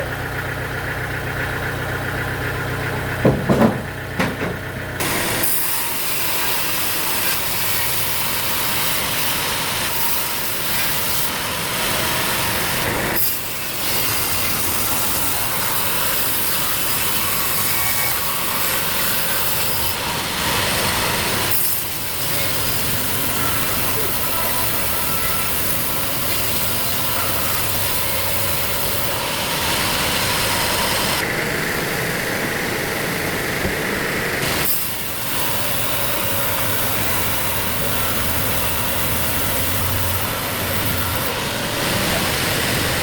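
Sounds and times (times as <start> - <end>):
engine running: 0.0 - 43.0
saw cutting through timber: 5.0 - 31.3, 34.4 - 43.0.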